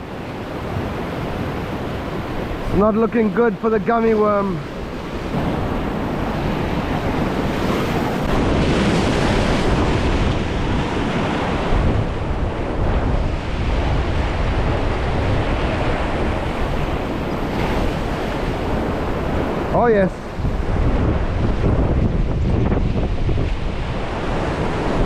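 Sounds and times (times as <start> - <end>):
ocean surf washing in: 0.0 - 25.0
wind rumbling on microphone: 0.0 - 25.0.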